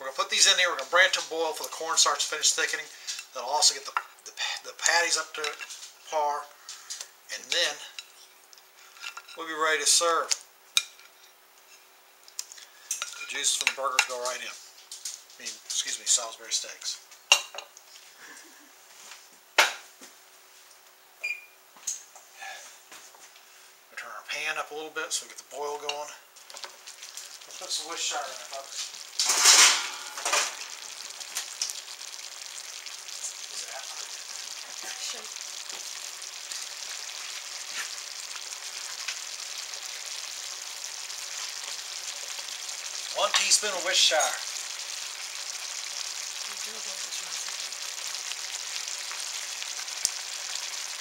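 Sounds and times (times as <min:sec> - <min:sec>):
patties sizzling in a skillet: 0:00.0 - 0:19.7, 0:21.9 - 0:51.0.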